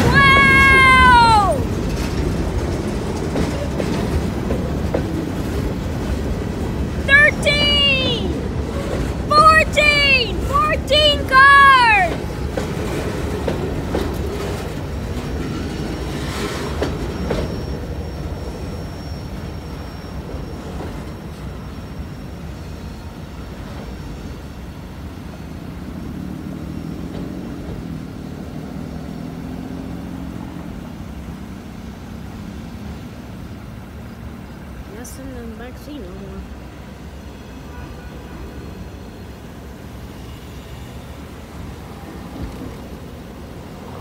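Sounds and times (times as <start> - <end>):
freight train rolling past: 0.0 - 44.0.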